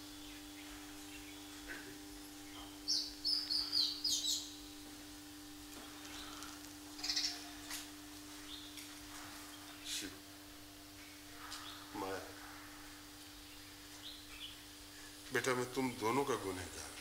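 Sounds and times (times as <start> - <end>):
small birds chirping: 0.0 - 16.8
steady low hum: 0.0 - 17.0.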